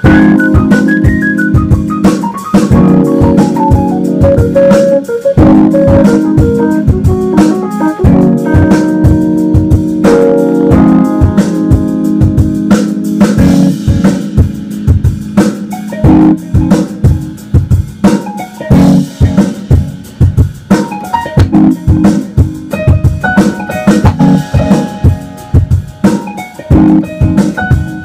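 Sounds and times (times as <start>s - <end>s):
drum kit beat: 0.0s - 28.0s
electronic piano chords: 0.0s - 28.0s
higher melody line: 0.0s - 28.0s.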